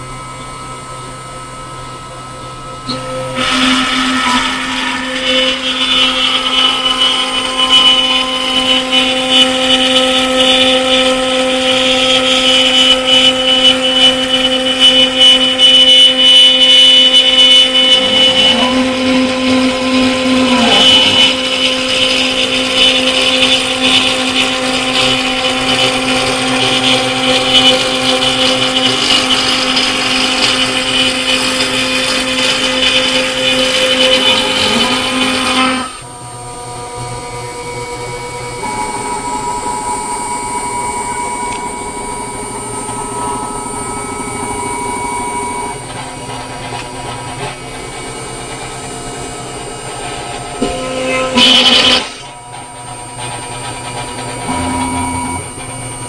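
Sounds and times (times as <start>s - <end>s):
machine hum: 0.0s - 56.0s
milling spindle whine with cutting hiss: 0.0s - 56.0s.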